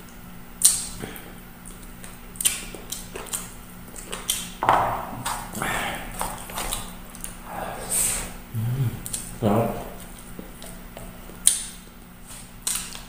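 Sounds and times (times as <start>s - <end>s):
person chewing with wet smacks: 0.0s - 7.5s, 9.0s - 13.0s.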